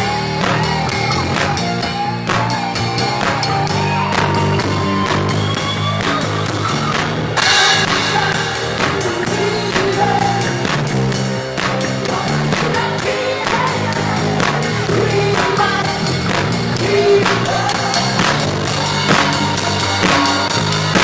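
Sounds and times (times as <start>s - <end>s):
person singing: 0.0s - 11.0s, 11.6s - 21.0s
bass: 0.0s - 21.0s
drum kit beat: 0.0s - 21.0s
keyboard: 0.0s - 21.0s.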